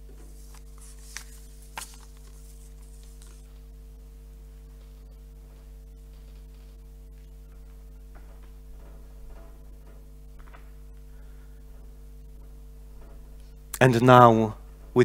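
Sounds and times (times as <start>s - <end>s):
faint soft footsteps: 0.0s - 13.6s
steady electrical hum: 0.0s - 15.0s.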